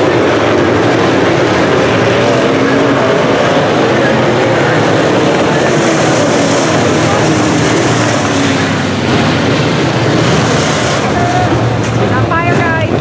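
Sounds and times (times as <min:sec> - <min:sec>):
race car engines racing: 0:00.0 - 0:13.0.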